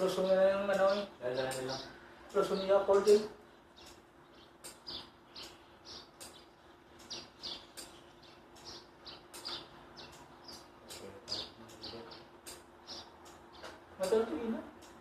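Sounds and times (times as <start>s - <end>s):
faint steady hum: 0.0s - 15.0s
small birds chirping: 0.0s - 15.0s.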